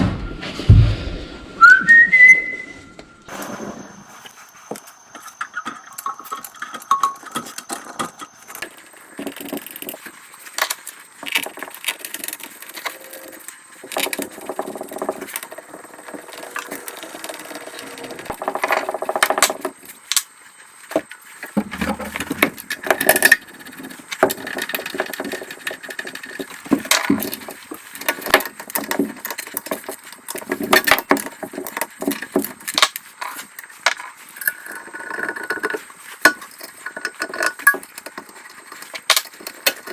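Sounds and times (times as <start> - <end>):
hand tools and metal parts clinking: 3.3 - 39.9.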